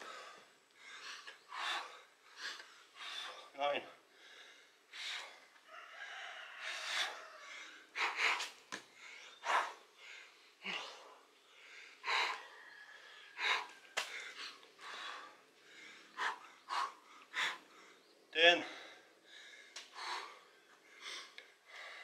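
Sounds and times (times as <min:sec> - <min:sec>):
person breathing hard: 0:00.0 - 0:22.0.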